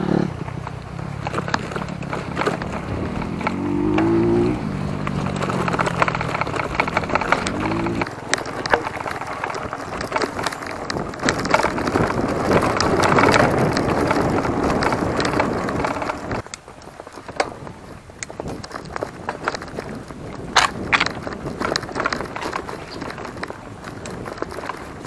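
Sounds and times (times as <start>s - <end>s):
bike clicking and rattling: 0.0s - 25.0s
bike tyre noise on trail: 0.0s - 25.0s.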